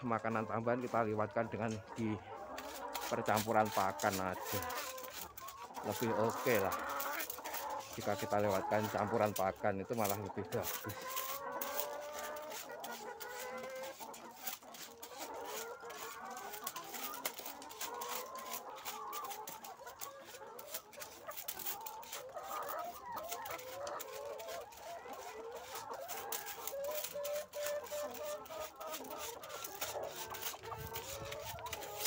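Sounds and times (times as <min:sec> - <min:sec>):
hens clucking: 0:00.0 - 0:32.0.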